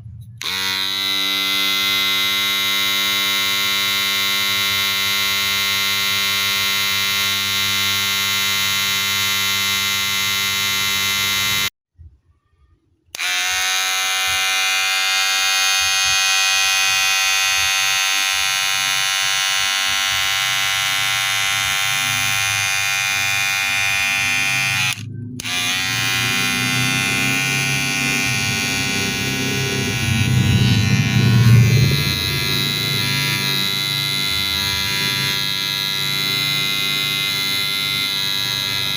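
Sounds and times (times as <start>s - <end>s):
hair clipper buzzing: 0.0s - 11.7s, 13.1s - 38.9s.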